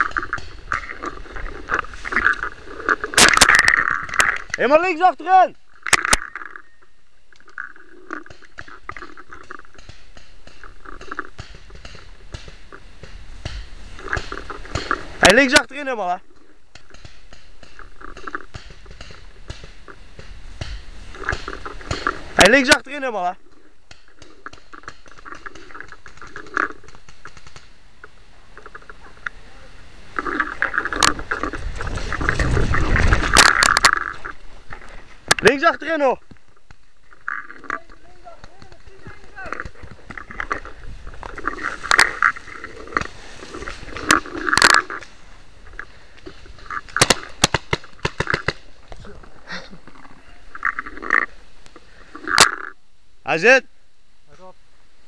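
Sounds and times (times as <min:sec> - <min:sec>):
sharp clicks: 0:00.0 - 0:29.0, 0:30.2 - 0:48.7
handling rustling and scraping: 0:00.0 - 0:29.4, 0:30.0 - 0:52.6.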